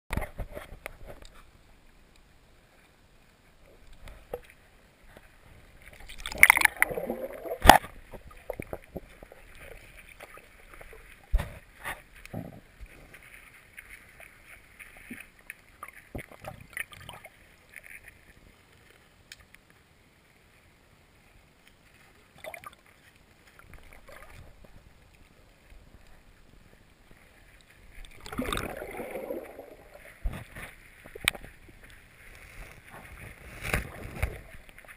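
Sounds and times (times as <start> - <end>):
muffled underwater water noise: 0.1 - 34.9.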